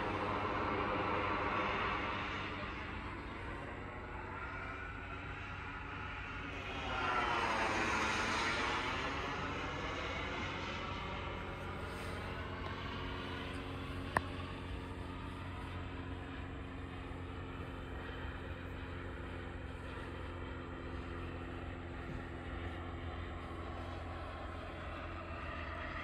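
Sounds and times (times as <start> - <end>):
model jet engine drone: 0.0 - 26.0.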